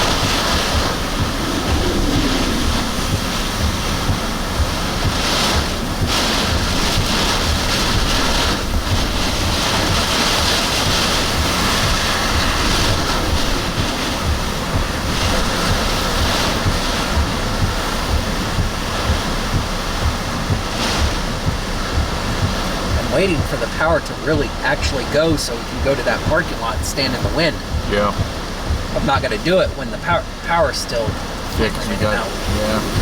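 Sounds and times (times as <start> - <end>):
strong gusting wind: 0.0 - 33.0
wind buffeting microphone: 0.0 - 33.0.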